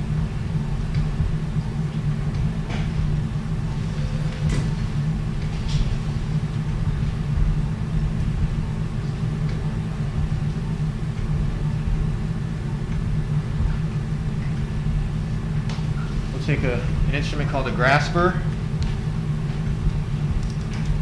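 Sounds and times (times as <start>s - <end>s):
low equipment hum: 0.0s - 21.0s.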